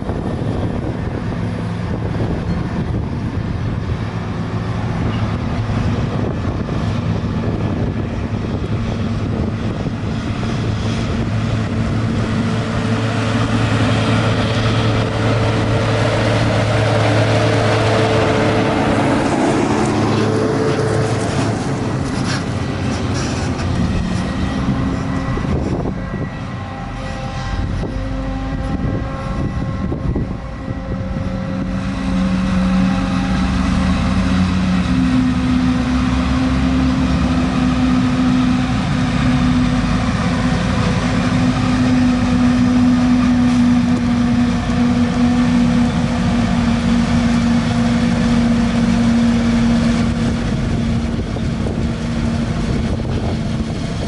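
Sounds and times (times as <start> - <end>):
farm machinery engine drone: 0.0 - 54.0.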